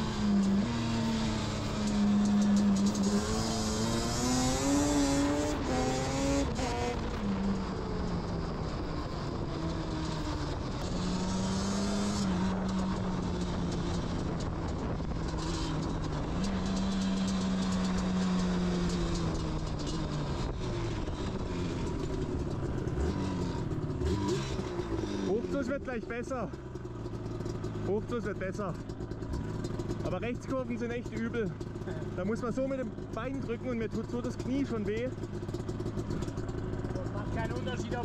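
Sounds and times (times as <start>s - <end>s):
two-stroke quad engine revving: 0.0s - 38.0s.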